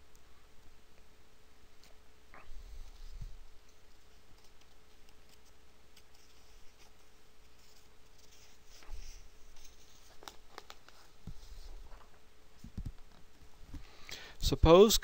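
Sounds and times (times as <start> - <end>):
faint steady hum: 0.0 - 15.0
small clicks and rustles: 1.8 - 13.9.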